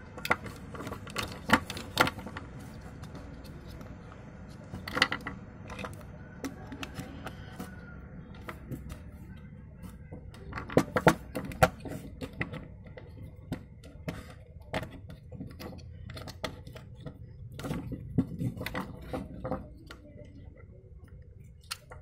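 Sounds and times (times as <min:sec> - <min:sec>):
plastic toy bricks clicking: 0:00.1 - 0:22.0.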